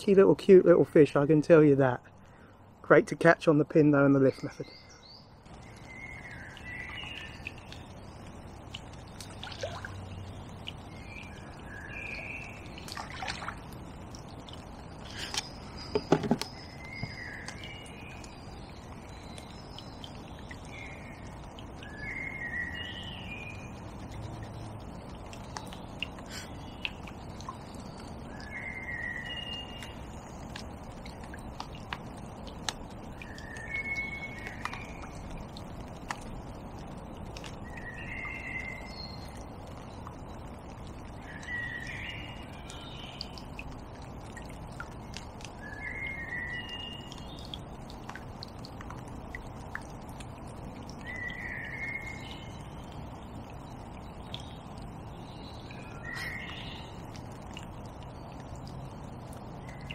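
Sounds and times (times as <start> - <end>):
songbird chirping: 0.0 - 36.2, 37.1 - 47.7, 50.9 - 59.9
low outdoor hiss: 0.0 - 59.9.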